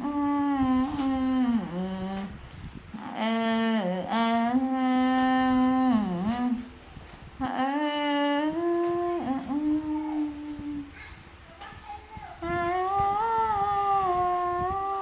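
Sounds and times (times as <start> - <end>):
person humming: 0.0 - 2.4, 3.0 - 6.7, 7.4 - 10.9, 12.4 - 15.0.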